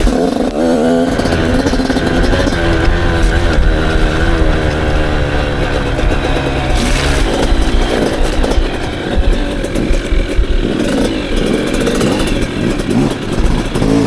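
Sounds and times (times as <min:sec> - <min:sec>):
off-road engine revving: 0:00.0 - 0:14.0.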